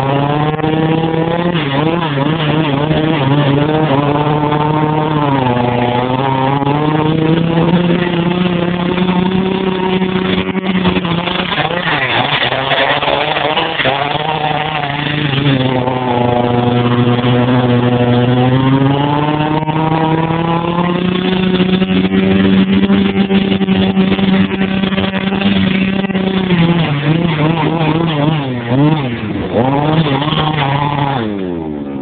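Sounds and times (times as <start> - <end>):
small two-stroke engine revving: 0.0 - 32.0.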